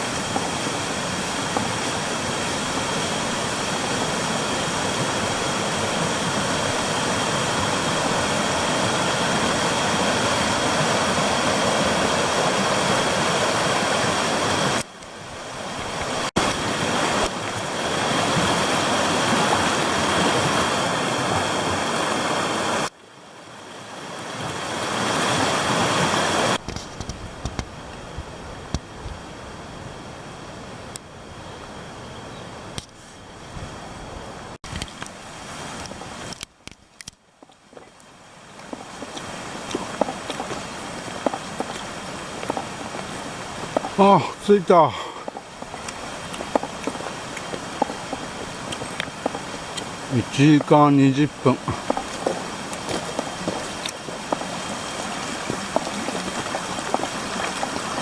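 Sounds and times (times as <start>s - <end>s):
rushing stream water roar: 0.0s - 58.0s.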